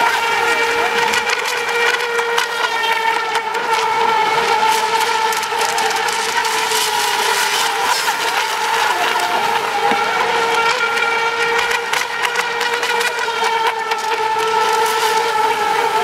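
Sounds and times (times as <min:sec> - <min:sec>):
electric boat motors whining: 0:00.0 - 0:16.0.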